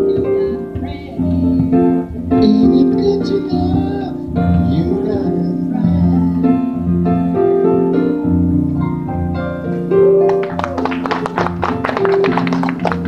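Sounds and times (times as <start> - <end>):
electronic keyboard chords: 0.0 - 13.0.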